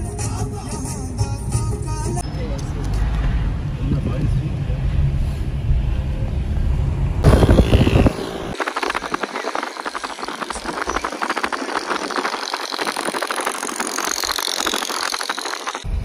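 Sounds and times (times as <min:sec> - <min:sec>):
low in-car rumble: 0:00.5 - 0:16.0.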